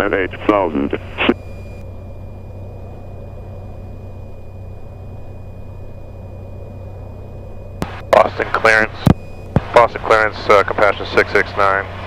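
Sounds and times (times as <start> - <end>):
piston aircraft engine idling: 0.0 - 12.0.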